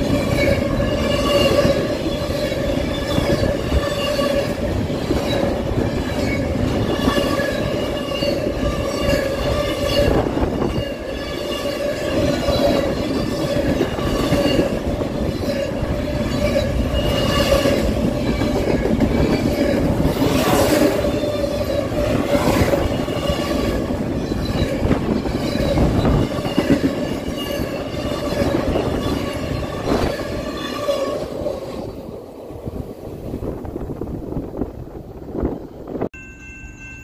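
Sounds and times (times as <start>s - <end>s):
high wheel squeal: 0.0s - 32.0s
freight train wheels rumbling: 0.0s - 37.0s.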